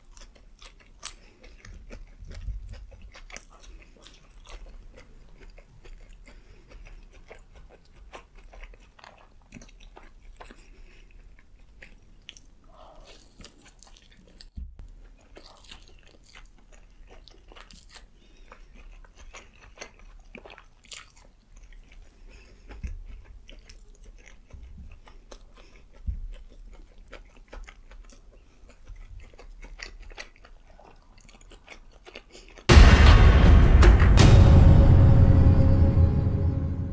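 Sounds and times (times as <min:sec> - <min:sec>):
person chewing food: 0:00.0 - 0:32.7.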